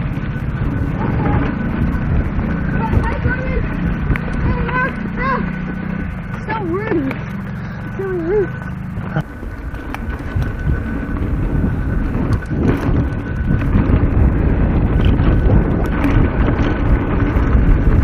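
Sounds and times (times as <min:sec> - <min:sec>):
bike clicks and rattles: 0:00.0 - 0:18.0
tyres rumbling over dirt: 0:00.0 - 0:18.0
wind buffeting microphone: 0:00.0 - 0:18.0.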